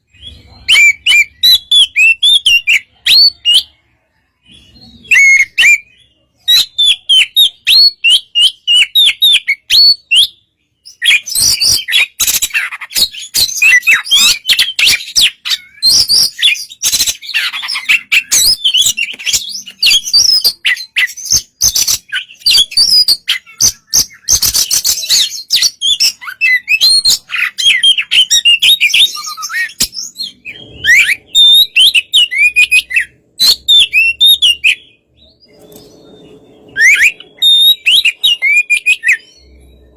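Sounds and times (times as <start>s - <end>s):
bird singing chirps and whistles: 0.0s - 3.8s, 4.4s - 39.9s.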